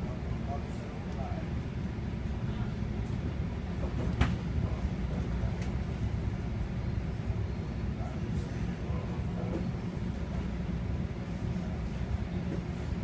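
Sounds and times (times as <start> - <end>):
train coach rumbling on rails: 0.0 - 13.0.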